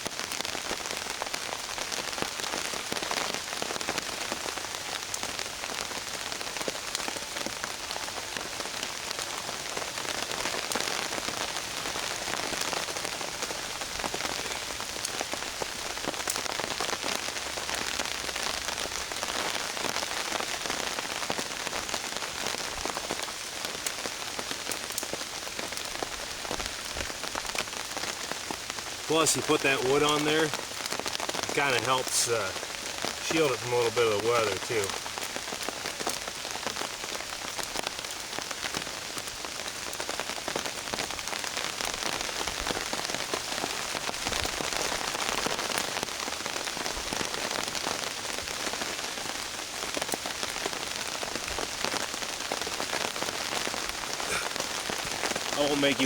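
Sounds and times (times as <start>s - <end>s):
rain pattering on a tarp: 0.0s - 56.0s.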